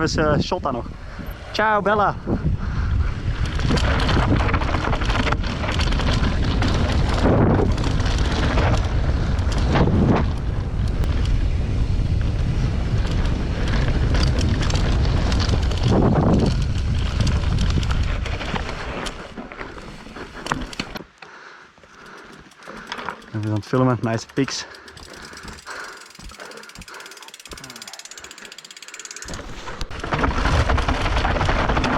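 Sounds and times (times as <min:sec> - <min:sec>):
wind buffeting camera: 0:00.0 - 0:21.0, 0:22.0 - 0:31.9
bike tyres rumbling on trail: 0:00.0 - 0:31.9
bike rattles and knocks: 0:03.3 - 0:11.4, 0:12.8 - 0:21.1, 0:21.8 - 0:31.9.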